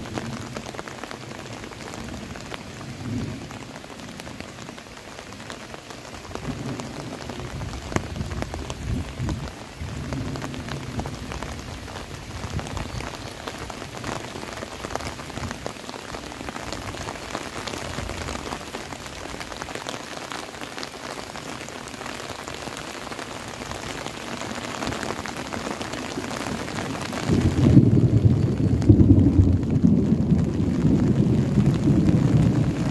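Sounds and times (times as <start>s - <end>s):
rain falling on trees and grass: 0.0s - 32.9s.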